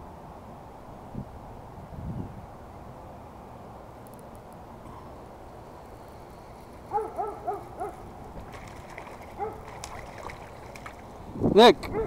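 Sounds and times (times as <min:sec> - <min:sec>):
faint steady background noise: 0:00.0 - 0:12.0.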